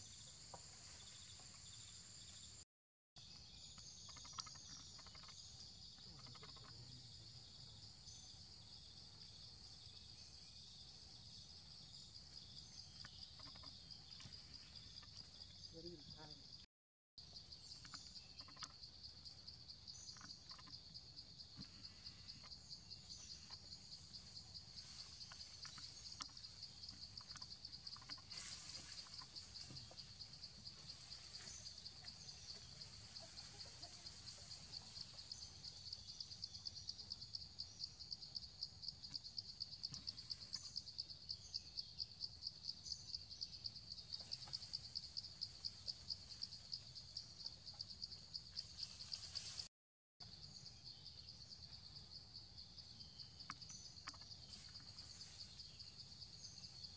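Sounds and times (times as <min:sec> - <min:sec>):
insect chorus pulsing trill: 0:03.2 - 0:16.6, 0:17.2 - 0:56.9.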